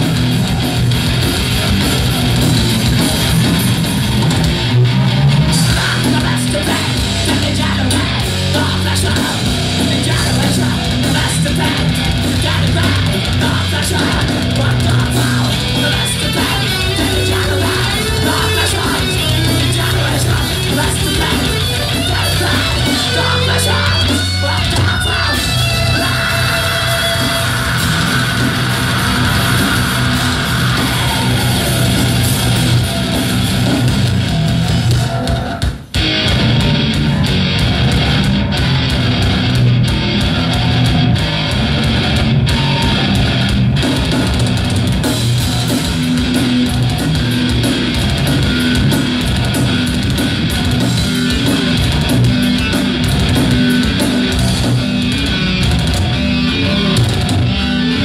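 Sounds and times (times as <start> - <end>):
bass guitar: 0.0 - 58.0
distorted electric guitar: 0.0 - 58.0
drum kit: 0.0 - 58.0.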